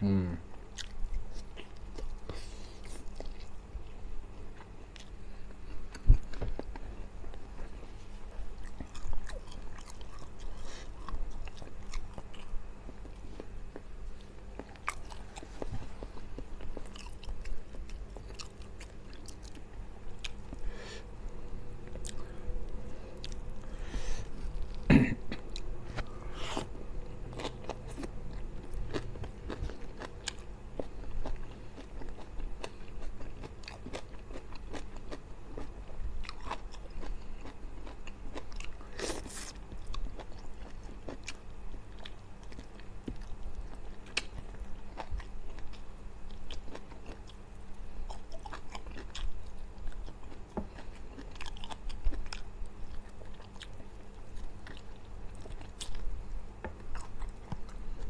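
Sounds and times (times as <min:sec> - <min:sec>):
chewing mouth noises: 0:00.8 - 0:03.7, 0:04.4 - 0:20.7, 0:23.0 - 0:58.0.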